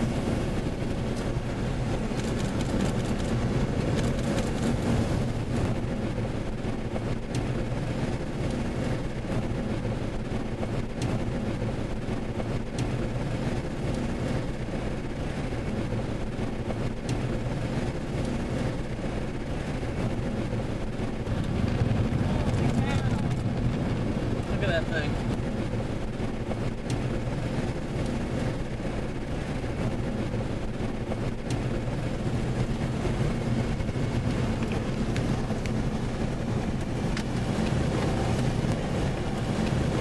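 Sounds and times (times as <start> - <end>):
car engine humming: 0.0 - 40.0
road noise inside car: 0.0 - 40.0
raindrops ticking on windshield: 6.6 - 9.7, 10.3 - 11.3, 12.0 - 40.0.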